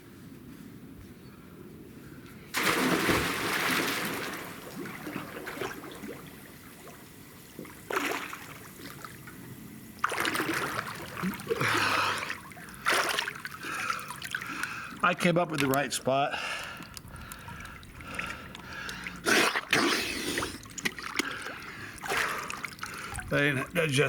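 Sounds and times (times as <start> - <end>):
water splashing and pouring: 2.5 - 9.2, 10.0 - 15.8, 17.2 - 24.0.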